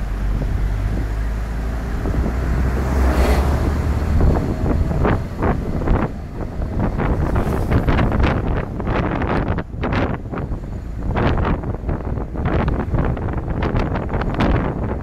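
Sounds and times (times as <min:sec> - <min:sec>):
low road rumble: 0:00.0 - 0:15.0
wind rushing over microphone: 0:00.0 - 0:15.0.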